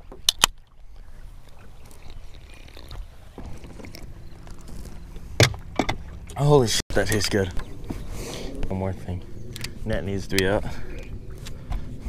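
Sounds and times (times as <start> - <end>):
low boat rumble: 0.0 - 12.0.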